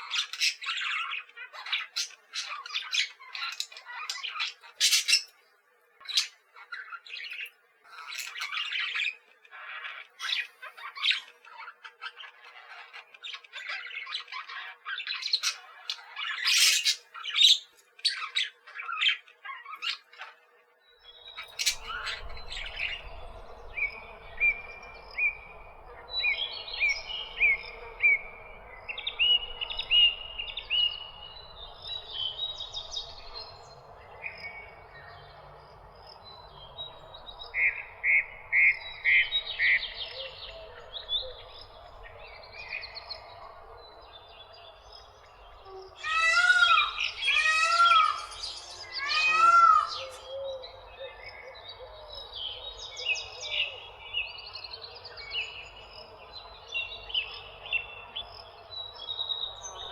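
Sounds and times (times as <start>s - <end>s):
birds chirping and squawking: 0.0s - 59.9s
low background noise: 0.0s - 59.9s.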